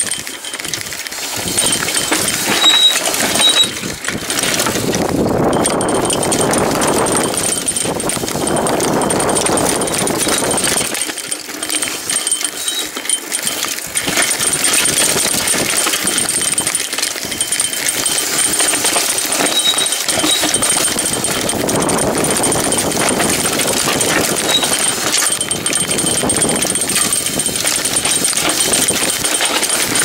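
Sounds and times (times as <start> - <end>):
bike rattling over bumps: 0.0 - 30.0
tyres rolling over dirt and stones: 0.0 - 30.0.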